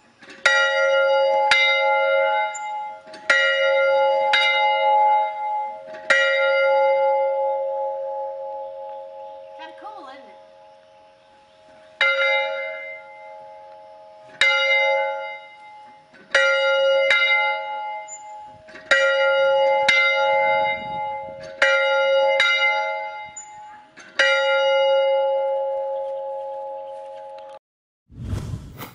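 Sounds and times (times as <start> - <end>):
church bell ringing: 0.4 - 11.2, 11.8 - 27.4.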